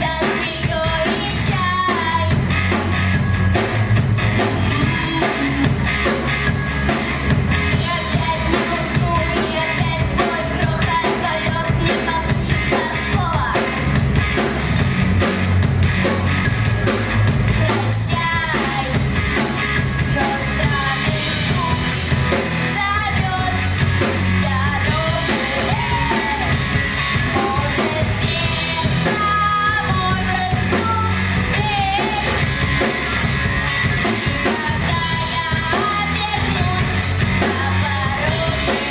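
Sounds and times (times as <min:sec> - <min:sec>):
drums: 0:00.0 - 0:38.9
guitar: 0:00.0 - 0:38.9
woman singing rock song: 0:00.0 - 0:38.9.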